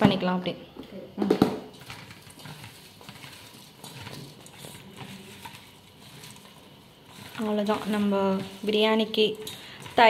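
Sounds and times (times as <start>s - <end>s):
vegetables rustling and squelching: 1.6s - 10.0s.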